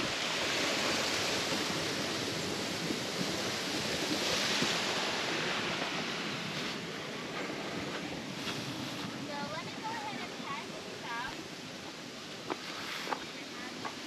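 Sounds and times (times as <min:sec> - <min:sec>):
water falling over a dam: 0:00.0 - 0:14.0.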